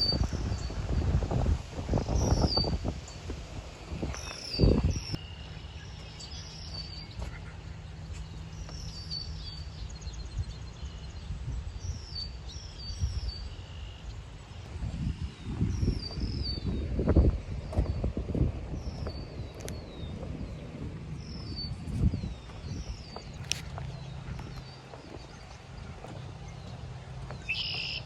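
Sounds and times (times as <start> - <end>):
small birds chirping: 1.9 - 28.0.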